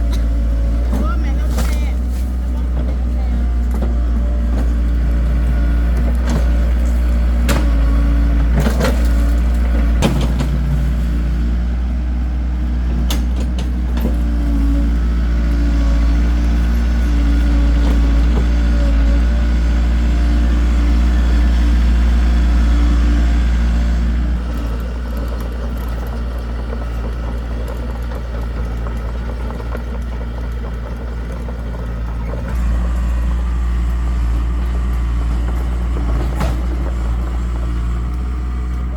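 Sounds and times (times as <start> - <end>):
excavator engine humming: 0.0 - 38.9.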